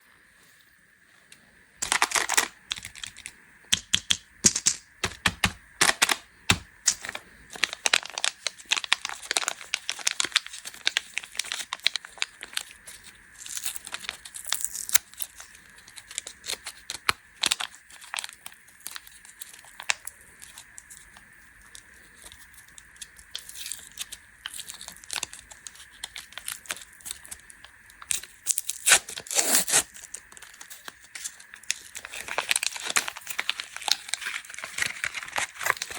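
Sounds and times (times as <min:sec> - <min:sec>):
plastic wrappers crinkling: 0:01.8 - 0:35.9.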